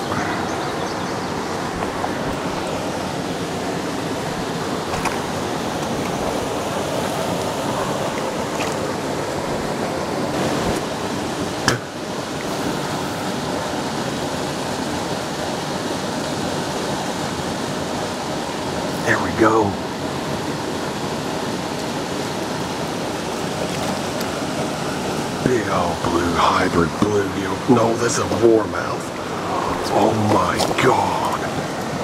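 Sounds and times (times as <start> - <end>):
water rushing through spillway: 0.0 - 32.0.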